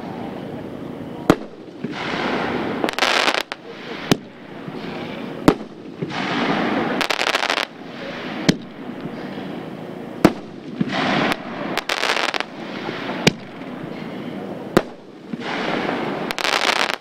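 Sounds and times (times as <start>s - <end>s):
firework crackling: 0.0s - 17.0s
firework bangs: 1.2s - 17.0s.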